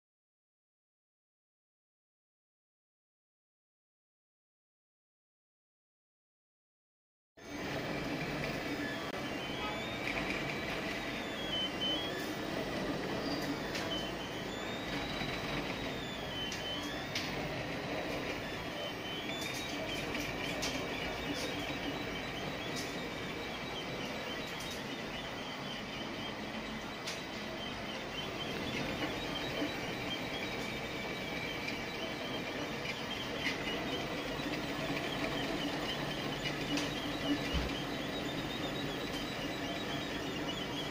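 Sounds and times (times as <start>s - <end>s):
stepper motors whining: 7.4s - 40.9s.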